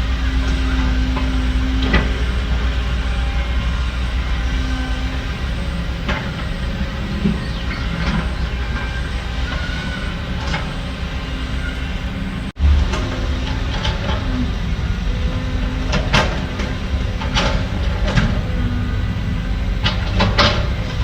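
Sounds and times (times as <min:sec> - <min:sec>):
diesel machinery rumbling: 0:00.0 - 0:21.0.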